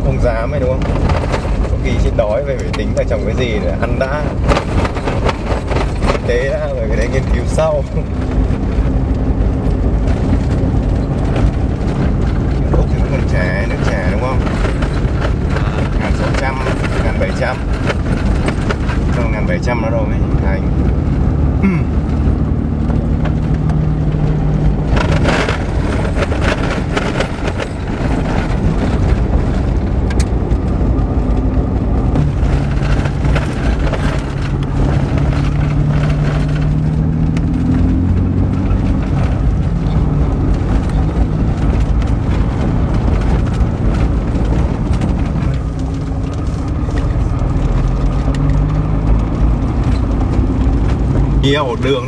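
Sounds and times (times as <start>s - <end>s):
car engine running: 0.0s - 52.0s
rattling and road noise: 0.0s - 52.0s.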